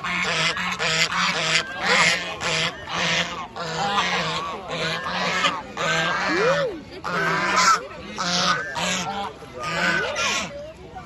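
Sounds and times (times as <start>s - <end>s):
waterfowl honking: 0.0s - 10.5s.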